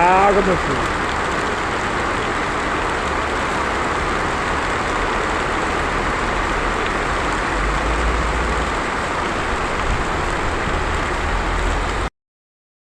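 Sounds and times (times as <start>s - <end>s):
heavy rain hissing: 0.0s - 12.1s
water running in street: 0.0s - 12.1s.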